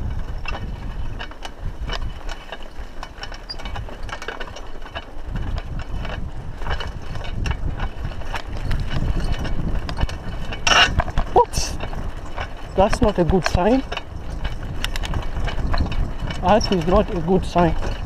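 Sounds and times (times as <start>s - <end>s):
low rumble of wind and tyres: 0.0s - 18.0s
mountain bike rattling and clicking: 0.0s - 18.0s.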